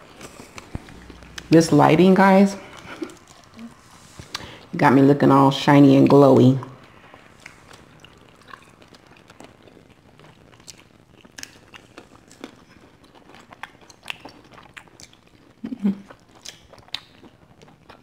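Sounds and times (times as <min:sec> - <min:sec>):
biting and chewing: 0:00.0 - 0:01.5, 0:02.6 - 0:04.7, 0:06.8 - 0:18.0.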